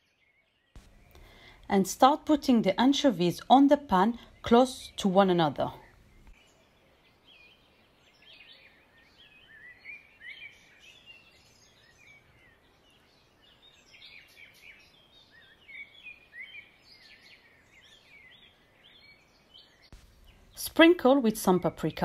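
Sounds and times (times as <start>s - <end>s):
faint birdsong chirps: 0.0s - 22.0s.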